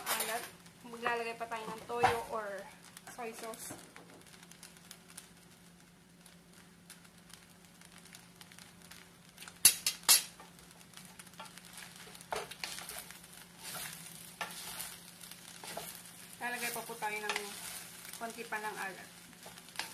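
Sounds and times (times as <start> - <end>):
spoons scraping pan with sizzle: 0.0 - 5.6, 6.2 - 19.9.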